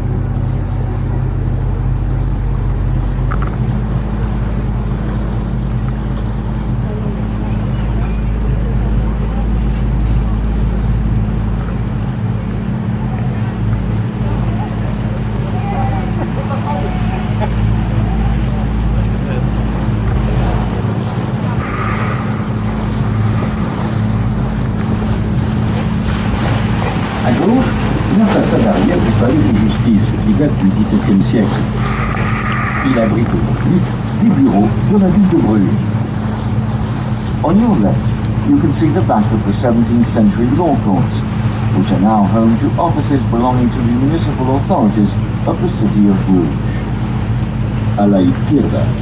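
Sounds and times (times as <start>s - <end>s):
boat motor running: 0.0s - 49.0s
wind and water hiss: 0.0s - 49.0s.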